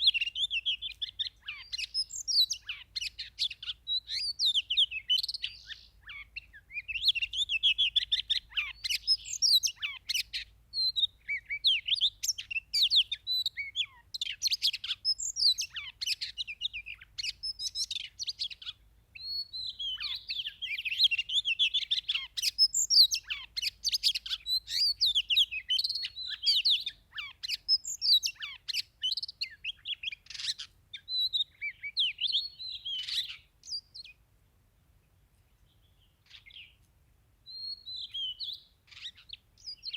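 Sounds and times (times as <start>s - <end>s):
bird singing chirps and trills: 0.0s - 34.2s, 35.5s - 36.8s, 37.4s - 39.9s.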